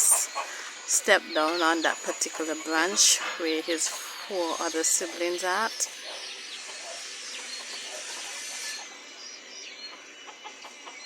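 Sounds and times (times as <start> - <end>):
steady high hiss: 0.0 - 10.3.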